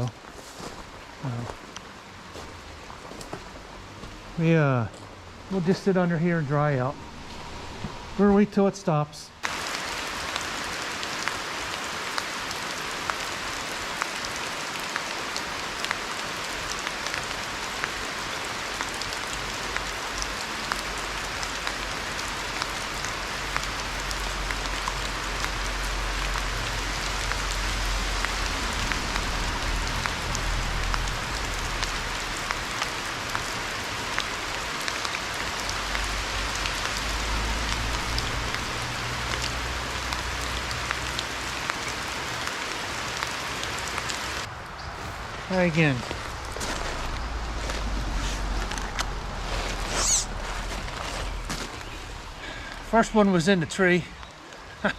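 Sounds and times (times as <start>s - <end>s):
rain hissing: 0.0s - 54.9s.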